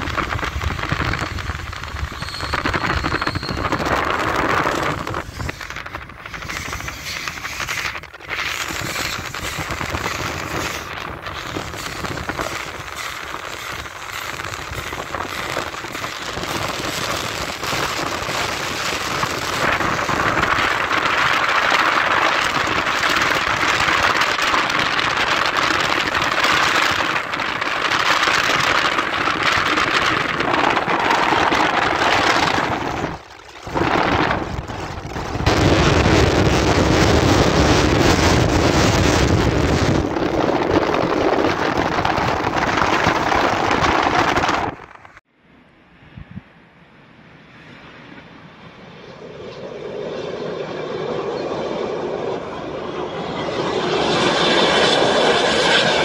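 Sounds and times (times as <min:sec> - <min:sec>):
car road noise: 0:00.0 - 0:45.2
wind buffeting a moving car: 0:00.0 - 0:45.2.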